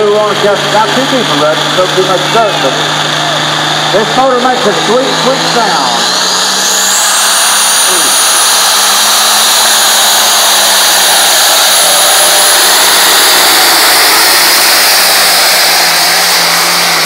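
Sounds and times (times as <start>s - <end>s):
tractor diesel engine at full throttle: 0.0s - 17.0s.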